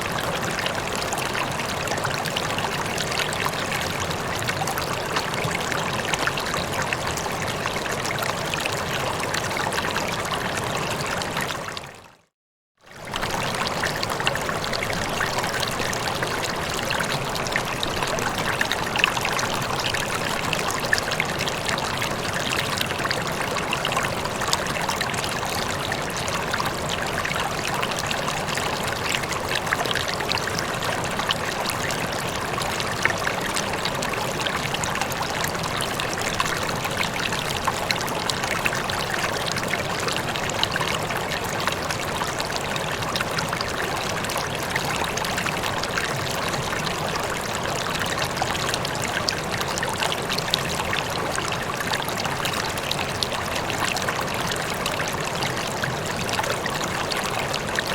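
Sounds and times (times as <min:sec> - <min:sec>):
water trickling and splashing: 0:00.0 - 0:12.3, 0:12.9 - 0:57.9.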